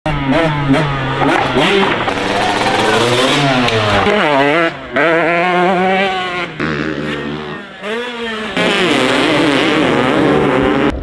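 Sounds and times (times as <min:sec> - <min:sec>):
dirt bike engine revving: 0:00.1 - 0:11.0.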